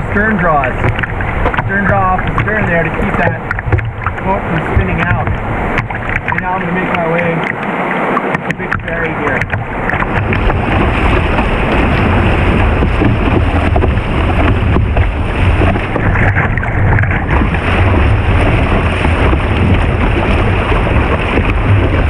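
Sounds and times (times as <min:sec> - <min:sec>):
river whitewater rushing: 0:00.0 - 0:22.0
wind buffeting microphone: 0:00.0 - 0:22.0.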